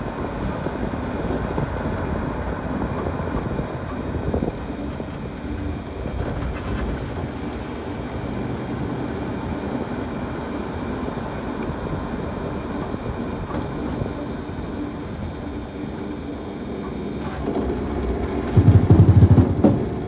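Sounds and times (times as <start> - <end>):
truck engine and road noise: 0.0 - 20.0.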